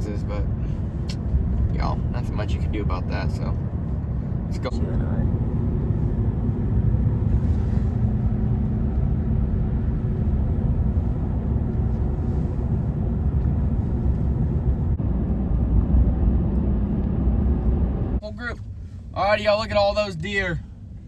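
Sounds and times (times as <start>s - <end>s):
vehicle engine and tyre rumble: 0.0s - 21.0s.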